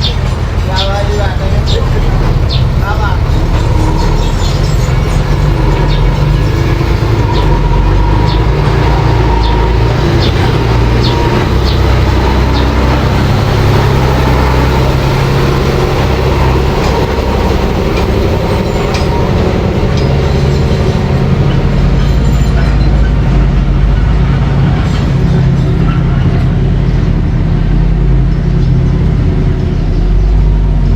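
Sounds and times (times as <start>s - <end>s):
bulldozer engine running: 0.0s - 30.9s
bulldozer tracks clanking: 0.0s - 30.9s.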